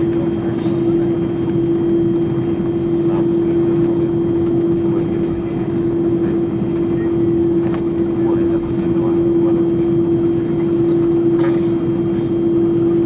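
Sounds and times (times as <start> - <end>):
hum of aircraft engines: 0.0 - 13.0.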